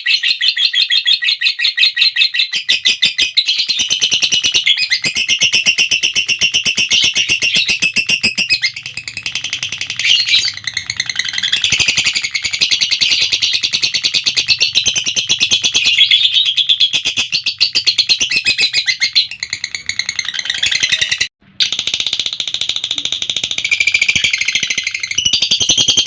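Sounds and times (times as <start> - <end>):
lovebird chattering: 0.1 - 26.0.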